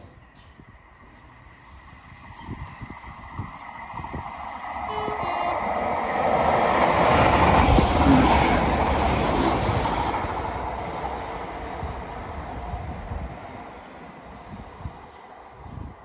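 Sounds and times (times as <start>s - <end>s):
train passing by: 0.0s - 16.0s.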